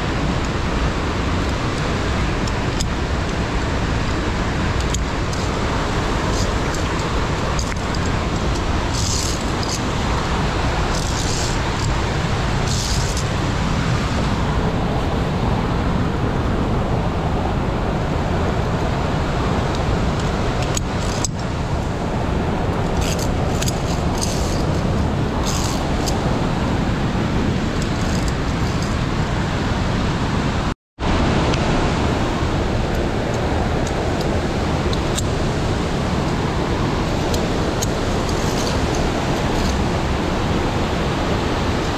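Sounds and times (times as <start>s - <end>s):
rushing mountain stream: 0.0s - 41.9s.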